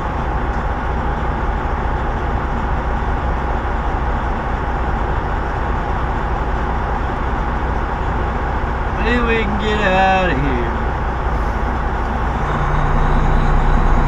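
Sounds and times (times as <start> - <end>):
truck diesel engine from cab: 0.0 - 14.0.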